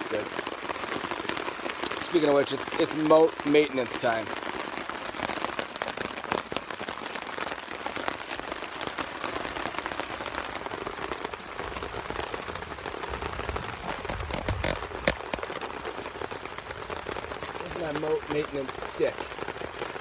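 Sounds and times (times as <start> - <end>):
rain pattering on a tarp: 0.0 - 20.0.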